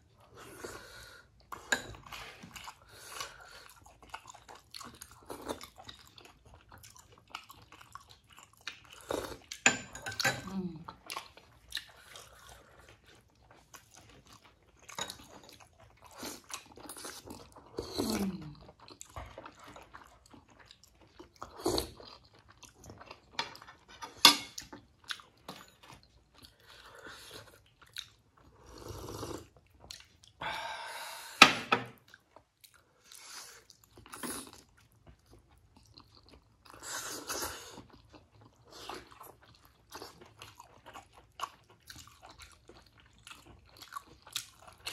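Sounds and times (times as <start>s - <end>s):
chewing and biting: 1.4s - 9.6s, 10.9s - 28.6s, 32.0s - 44.9s.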